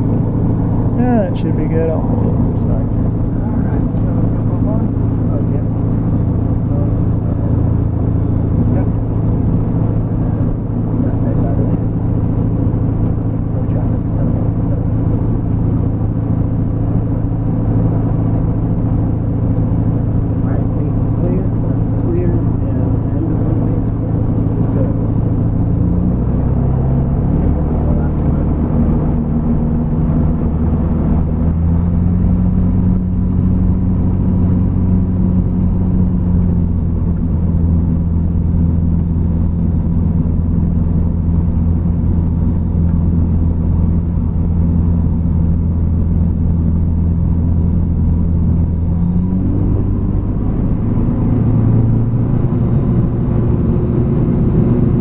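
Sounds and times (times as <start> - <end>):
light aircraft engine running: 0.0 - 55.0.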